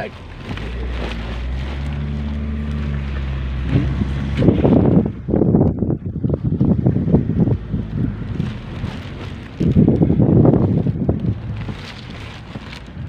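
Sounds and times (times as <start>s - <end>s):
diesel engine accelerating: 0.0s - 13.0s
wind buffeting microphone: 0.0s - 13.0s.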